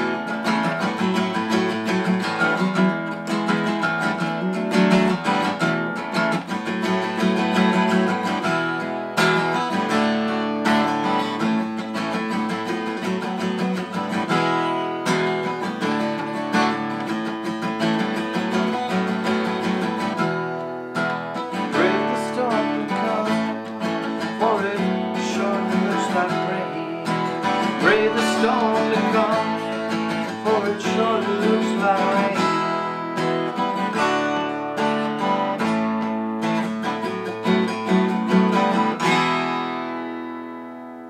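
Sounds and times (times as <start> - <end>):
acoustic guitar strummed and picked: 0.0 - 41.0.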